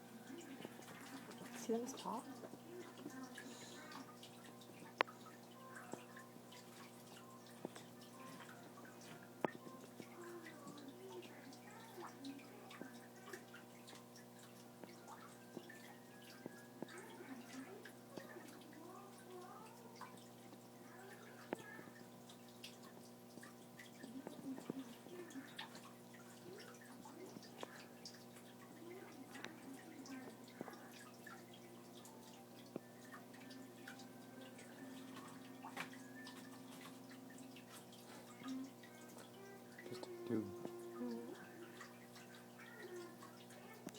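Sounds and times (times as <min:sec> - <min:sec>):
low electrical hum: 0:00.0 - 0:43.9.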